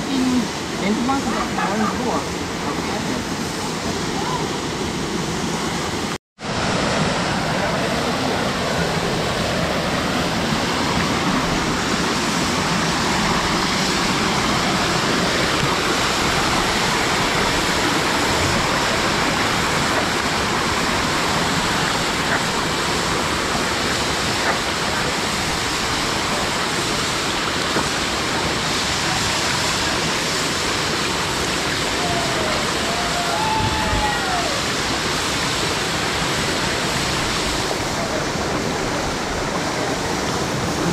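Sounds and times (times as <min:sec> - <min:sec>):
waterfall pouring and splashing: 0:00.0 - 0:40.9.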